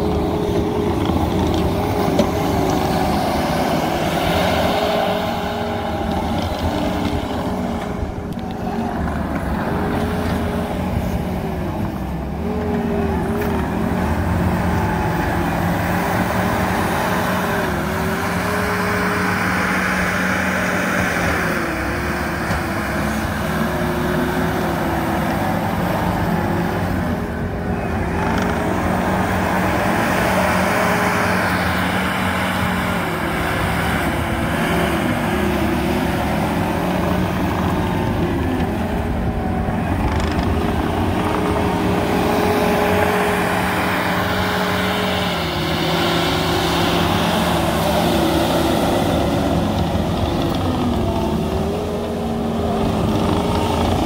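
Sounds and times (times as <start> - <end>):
diesel engine whining: 0.0 - 54.0.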